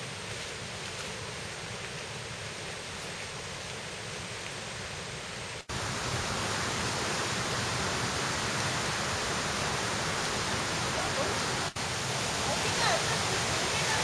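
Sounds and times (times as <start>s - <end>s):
stream and waterfall rushing: 0.0s - 14.0s.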